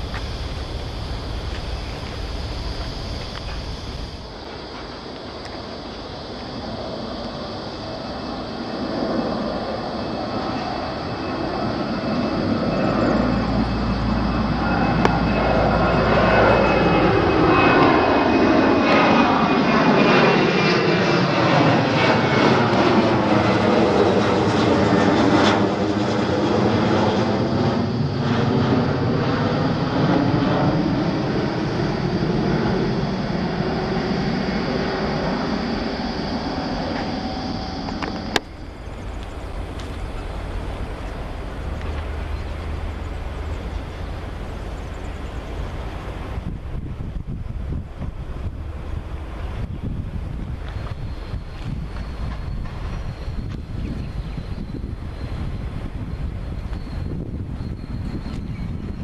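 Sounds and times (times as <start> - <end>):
distant jet rumble: 0.0 - 59.0
jet airliner passing overhead: 0.0 - 59.0.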